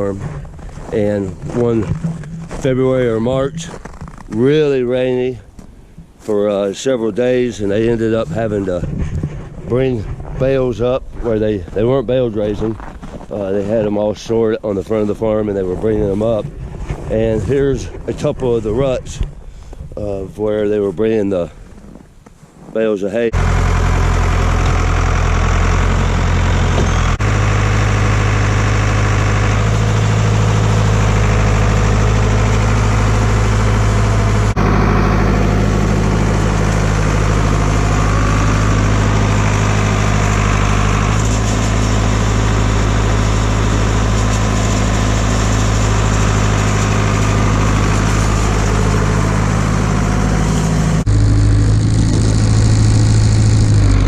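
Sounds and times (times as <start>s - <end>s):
tractor engine running: 0.0s - 22.2s, 23.2s - 54.0s.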